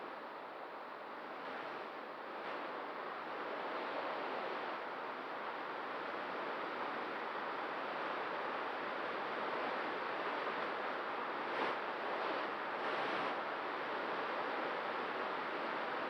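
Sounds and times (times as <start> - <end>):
wind rushing over microphone: 1.3 - 16.0.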